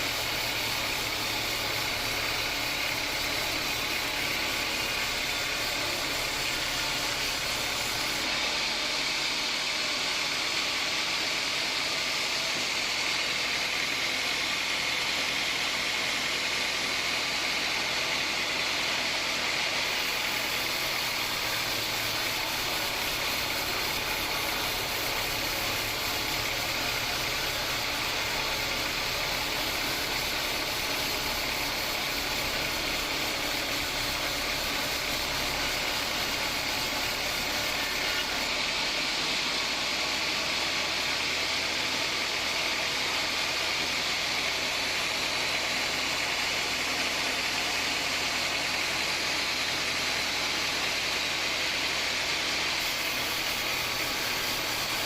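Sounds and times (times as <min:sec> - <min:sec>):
bandsaw sawing through log: 0:00.0 - 0:55.0.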